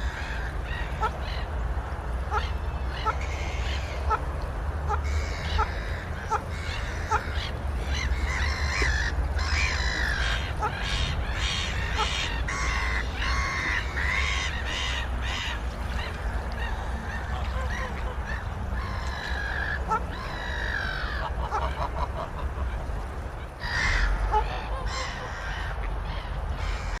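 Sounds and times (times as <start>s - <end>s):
waterfowl honking: 0.0s - 1.5s, 2.3s - 22.9s, 23.6s - 27.0s.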